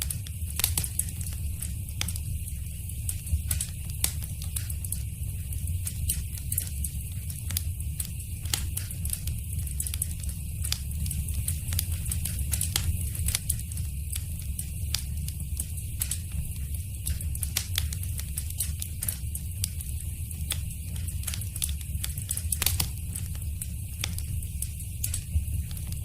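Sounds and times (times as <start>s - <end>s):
low rumble of flame: 0.0s - 26.0s
wood fire crackling and popping: 0.0s - 26.0s.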